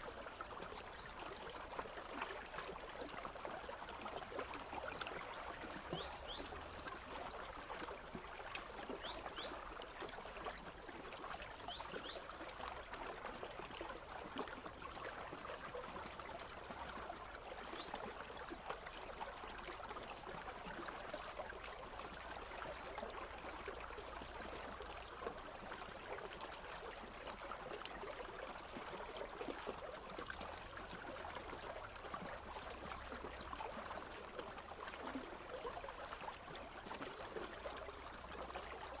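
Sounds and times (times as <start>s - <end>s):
stream babbling over rocks: 0.0s - 39.0s.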